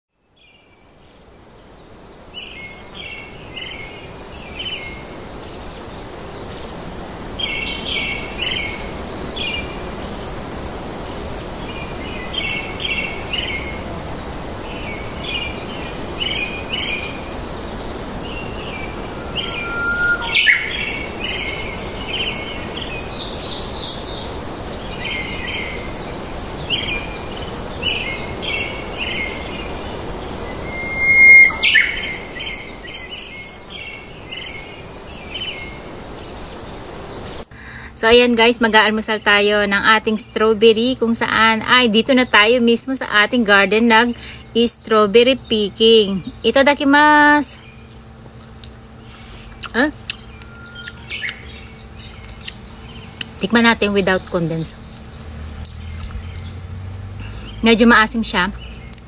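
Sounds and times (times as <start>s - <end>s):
outdoor hiss: 0.2s - 59.0s
small birds chirping: 0.2s - 59.0s.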